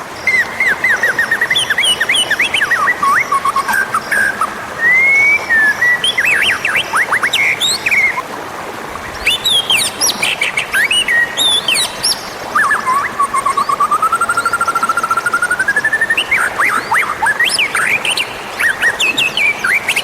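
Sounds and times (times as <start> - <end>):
songbird whistling and trilling: 0.2 - 8.2, 9.2 - 20.0.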